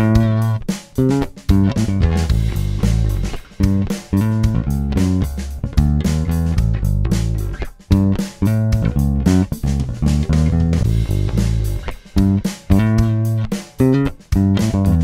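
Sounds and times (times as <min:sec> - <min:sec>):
electric bass playing: 0:00.0 - 0:15.0.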